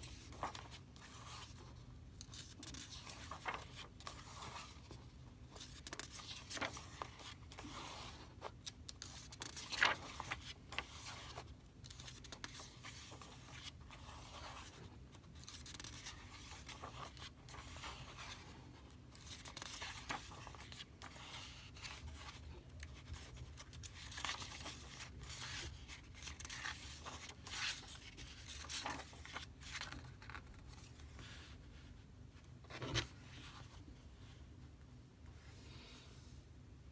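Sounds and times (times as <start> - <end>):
paper pages rustling: 0.0 - 31.5.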